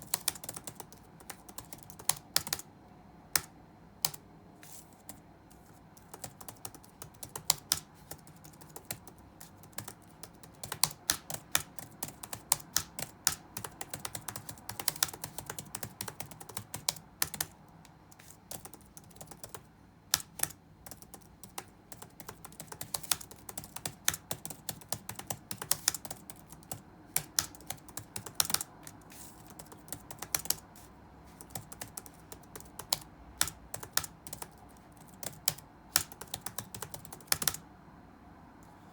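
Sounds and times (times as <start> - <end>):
keyboard typing: 0.0 - 2.7, 3.3 - 37.6
faint low hum: 0.0 - 38.9.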